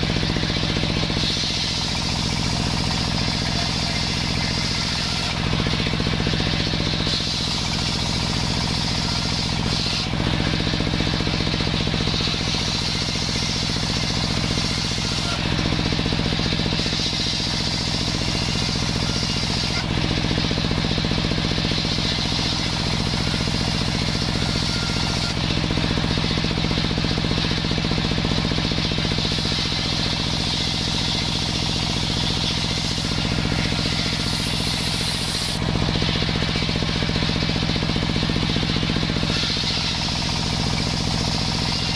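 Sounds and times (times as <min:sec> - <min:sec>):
circular saw cutting wood: 0:00.0 - 0:41.9
saw drive low drone: 0:00.0 - 0:41.9.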